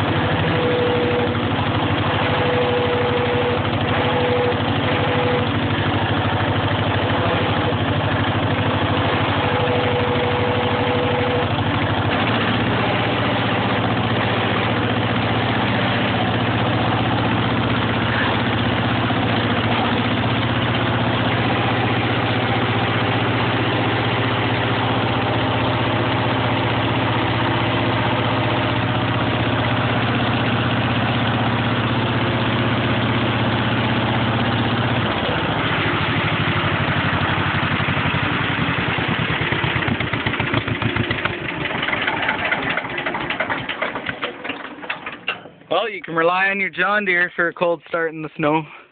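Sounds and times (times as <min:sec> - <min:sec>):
crawler tractor engine running: 0:00.0 - 0:48.9.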